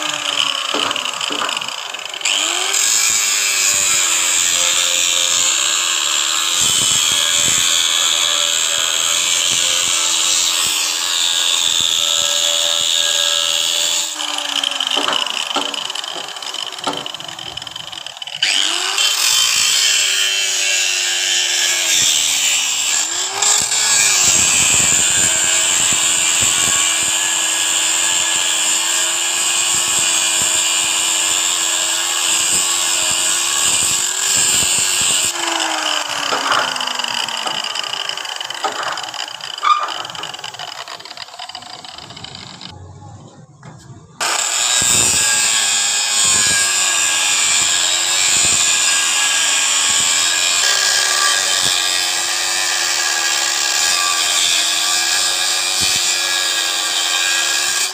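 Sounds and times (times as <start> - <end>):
angle grinder cutting steel: 0.0 - 42.7, 44.2 - 57.9.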